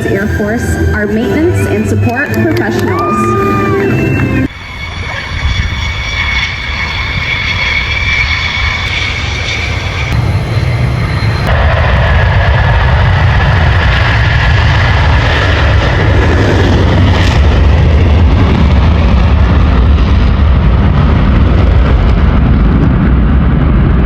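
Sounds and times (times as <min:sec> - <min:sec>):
jet aircraft engines rumbling: 0:00.0 - 0:24.0.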